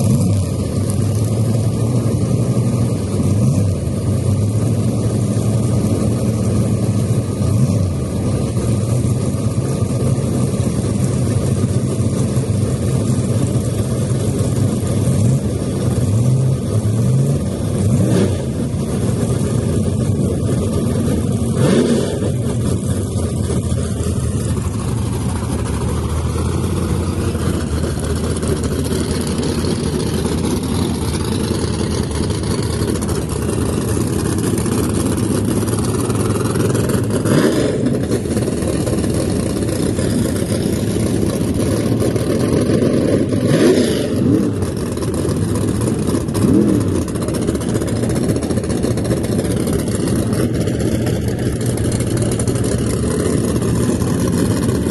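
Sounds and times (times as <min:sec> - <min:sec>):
drag car engine revving: 0:00.0 - 0:54.9.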